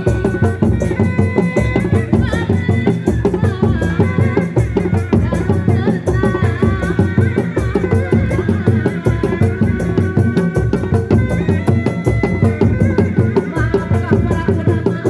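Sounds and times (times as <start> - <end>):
hand drums and percussion: 0.0 - 15.0.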